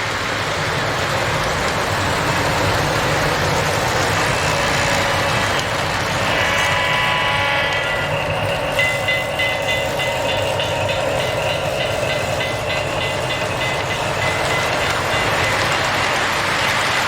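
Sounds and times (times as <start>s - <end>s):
wheels rumbling on rail: 0.0s - 17.0s
model train motor hum: 0.3s - 17.0s.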